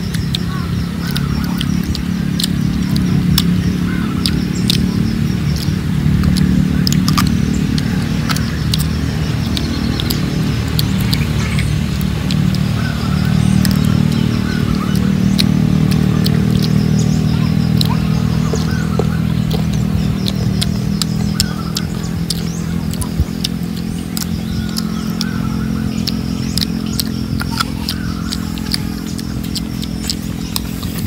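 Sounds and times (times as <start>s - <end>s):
crunchy fruit chewing: 0.0s - 31.0s
low engine hum: 0.0s - 31.0s.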